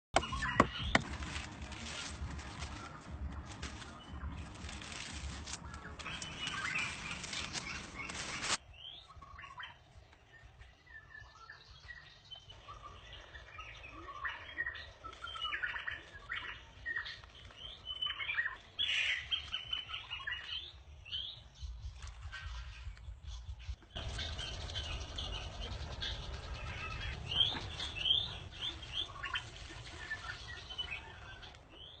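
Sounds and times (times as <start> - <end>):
small birds chirping: 0.2 - 32.0.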